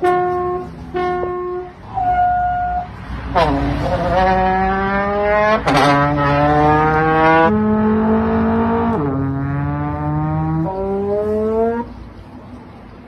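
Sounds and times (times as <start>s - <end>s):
trumpet long notes: 0.0s - 11.9s.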